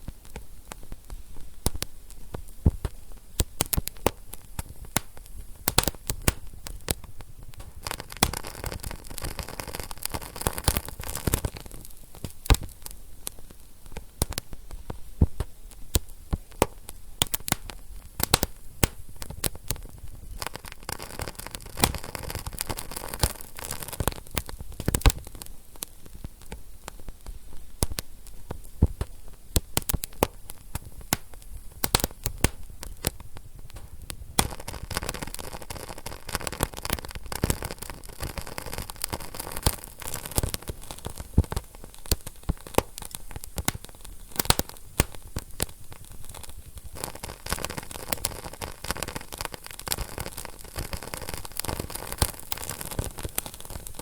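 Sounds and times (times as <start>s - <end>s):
wood fire crackling and popping: 0.0s - 54.0s
low rush of flame: 0.1s - 54.0s.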